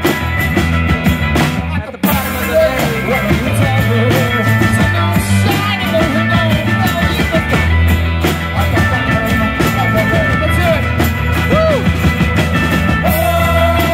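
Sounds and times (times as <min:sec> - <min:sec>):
drum kit with cymbals: 0:00.0 - 0:13.9
electric guitar: 0:00.0 - 0:13.9
man singing: 0:01.6 - 0:11.9, 0:12.9 - 0:13.9.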